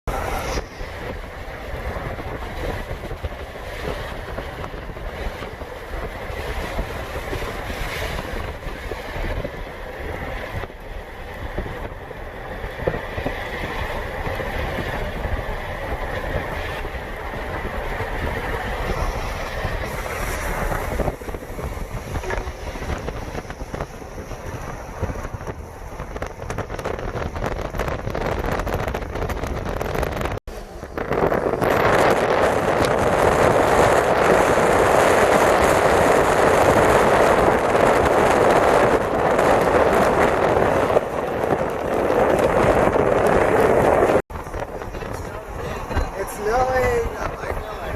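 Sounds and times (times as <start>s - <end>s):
road and tyre noise in cabin: 0.0s - 47.9s.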